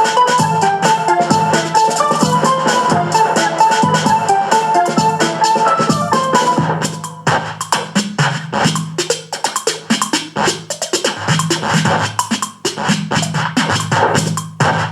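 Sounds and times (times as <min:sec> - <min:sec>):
electronic music with drum beat: 0:00.0 - 0:14.9.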